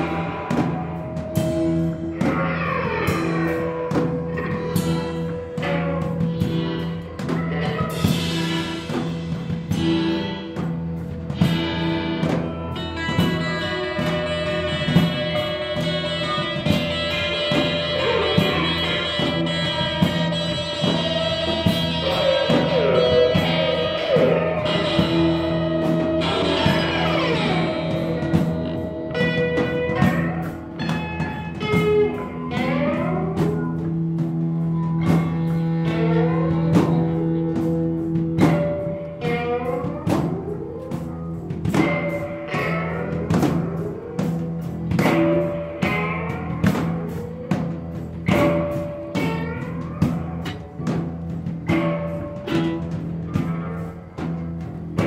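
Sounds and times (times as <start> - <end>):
drums striking: 0.0 - 55.0
guitars with bending notes: 0.0 - 55.0
rock band playing: 0.0 - 55.0.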